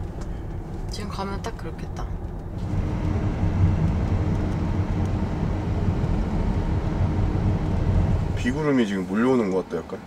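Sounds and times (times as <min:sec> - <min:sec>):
road and tyre noise inside car: 0:00.0 - 0:10.0.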